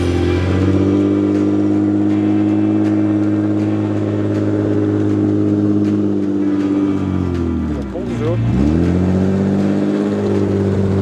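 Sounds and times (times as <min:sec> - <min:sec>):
car engine running under load: 0:00.0 - 0:11.0.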